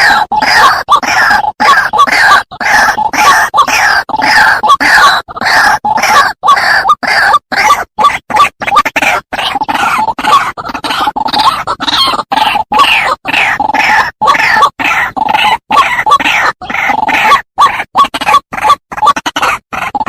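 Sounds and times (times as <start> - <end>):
bird harsh croaking call: 0.0 - 20.0.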